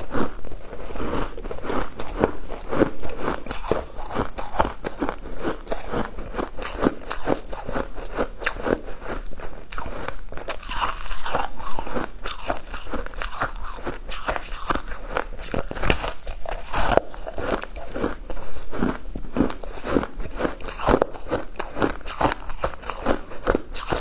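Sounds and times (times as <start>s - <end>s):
sharp crunching bites: 0.0s - 8.8s, 9.7s - 24.0s
chewing: 0.0s - 24.0s.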